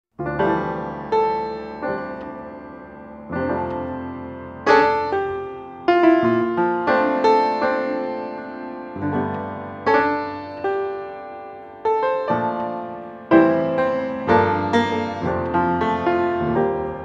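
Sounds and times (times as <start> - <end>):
slow piano music: 0.1 - 17.0.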